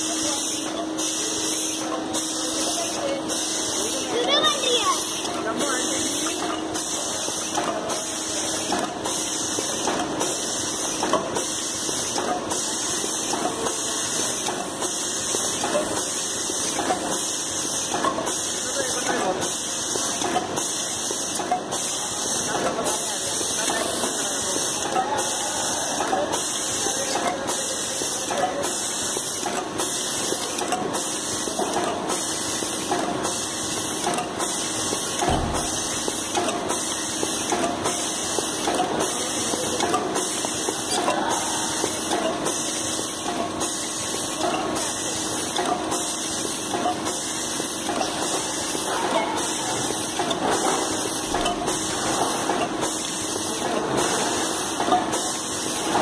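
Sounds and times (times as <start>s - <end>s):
mechanical clacks: 0.3s - 56.0s.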